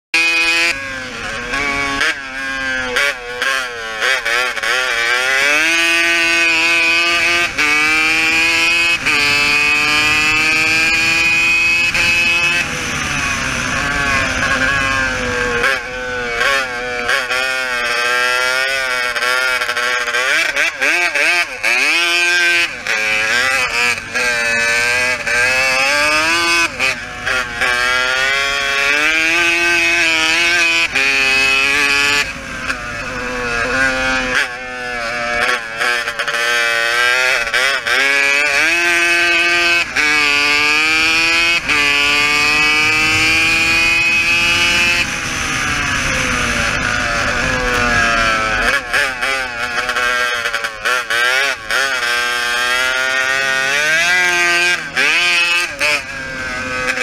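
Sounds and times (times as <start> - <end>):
quad engine revving: 0.1 - 57.0.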